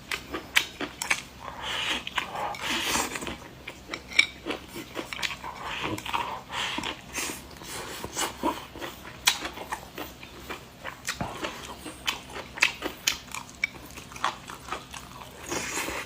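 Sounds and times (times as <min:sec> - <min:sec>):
person chewing and lip smacking: 0:00.0 - 0:16.0.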